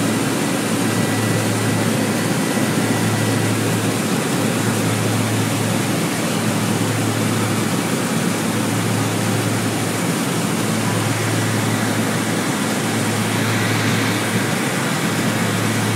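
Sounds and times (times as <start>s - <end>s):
aircraft engine and propeller drone: 0.0s - 15.9s.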